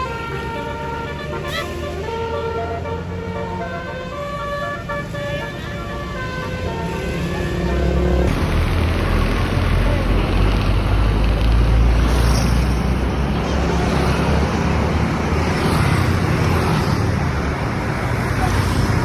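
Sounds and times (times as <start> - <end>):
heavy vehicle engine rumble: 0.0 - 19.0
road traffic: 0.0 - 19.0.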